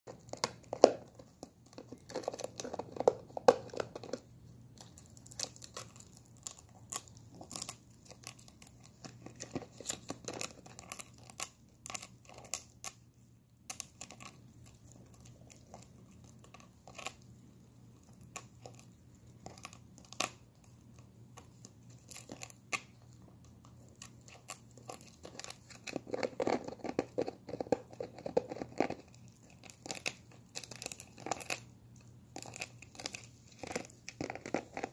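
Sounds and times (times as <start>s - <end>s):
dog teeth scraping plastic: 0.1s - 13.0s, 18.0s - 34.9s.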